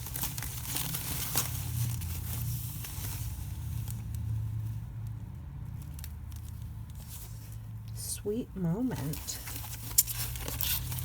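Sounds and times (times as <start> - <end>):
packaging rustling and crinkling: 0.0 - 7.7, 9.0 - 11.0.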